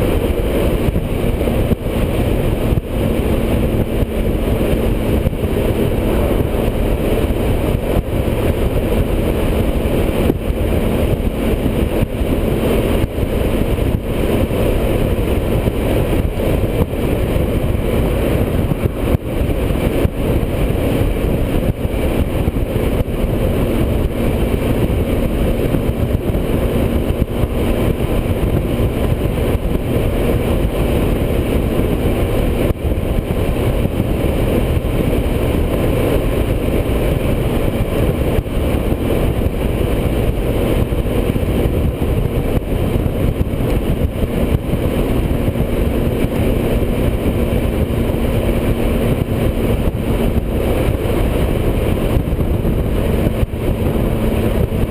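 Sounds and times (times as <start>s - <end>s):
motorcycle engine and road noise: 0.0s - 54.9s
wind rushing on microphone: 0.0s - 54.9s.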